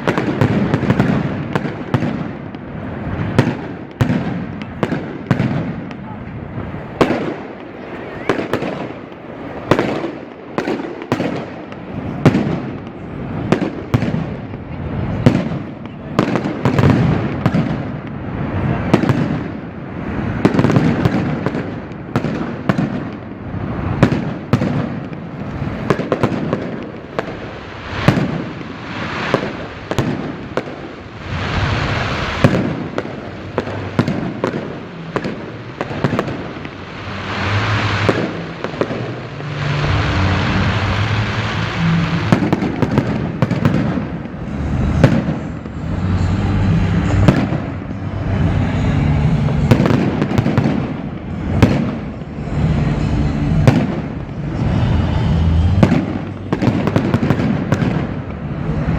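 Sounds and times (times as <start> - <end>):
fireworks bangs and crackles: 0.0 - 58.9.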